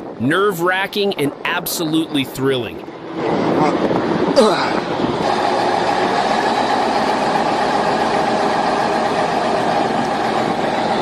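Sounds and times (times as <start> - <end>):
heavy truck engine running: 1.3 - 11.0.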